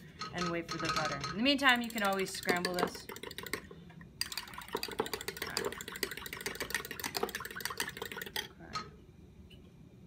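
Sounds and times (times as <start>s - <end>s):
fork whisking eggs in glass: 0.3s - 8.5s.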